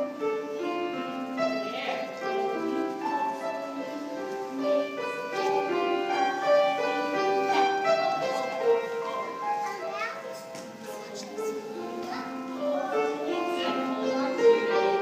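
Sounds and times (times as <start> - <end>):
slow classical piano music: 0.0 - 15.0.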